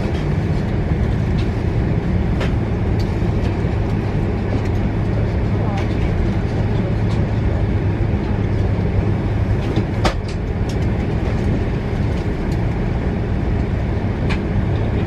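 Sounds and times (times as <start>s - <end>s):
vehicle interior rumble: 0.0s - 15.0s.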